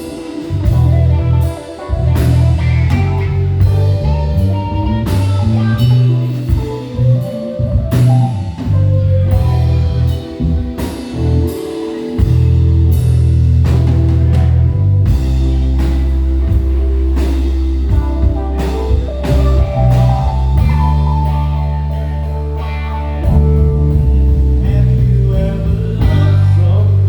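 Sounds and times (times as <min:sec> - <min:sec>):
drum kit: 0:00.0 - 0:27.0
electric bass: 0:00.0 - 0:27.0
guitar: 0:00.0 - 0:27.0.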